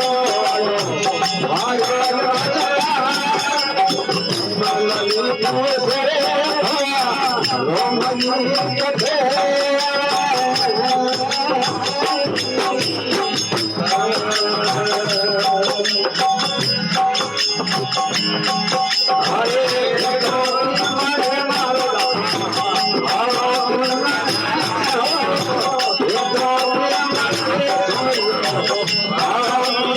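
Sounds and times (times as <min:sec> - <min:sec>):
shaker and jingle percussion: 0:00.0 - 0:29.9.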